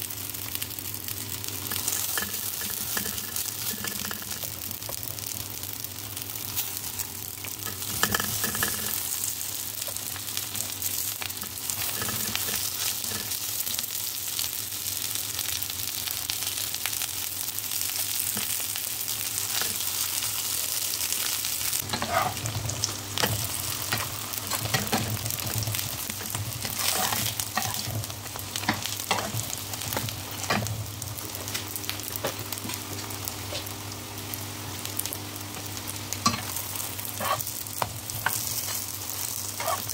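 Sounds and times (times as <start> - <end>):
flatbreads sizzling in hot oil: 0.0 - 39.9.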